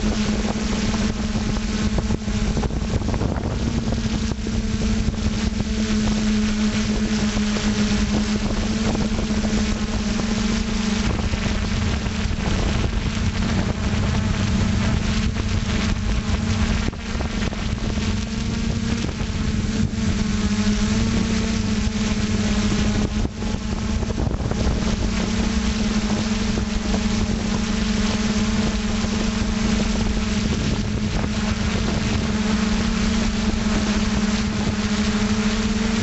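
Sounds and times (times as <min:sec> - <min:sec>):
drone motors buzzing: 0:00.0 - 0:36.0
wind rushing over microphone: 0:00.0 - 0:36.0.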